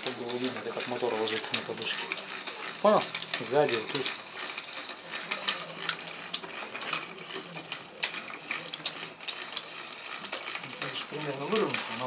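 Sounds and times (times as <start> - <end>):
metallic clicks and rattles: 0.0 - 12.0.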